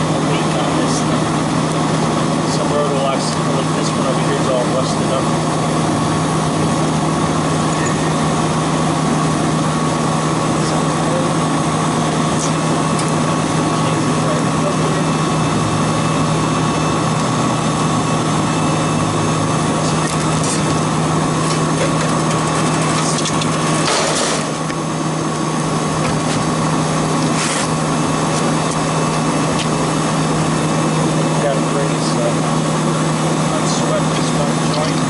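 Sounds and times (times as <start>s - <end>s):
machine motor humming: 0.0s - 35.0s.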